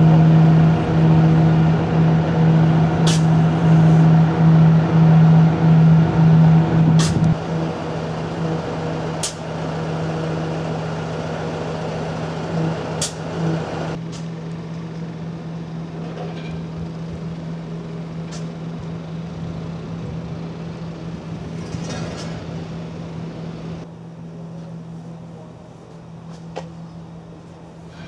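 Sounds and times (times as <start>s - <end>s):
steady machine drone: 0.0s - 28.0s.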